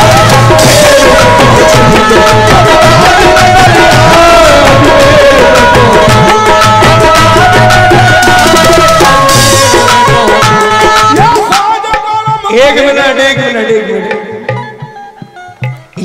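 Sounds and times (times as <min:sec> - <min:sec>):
fast tabla strokes: 0:00.0 - 0:16.0
harmonium chords: 0:00.0 - 0:16.0.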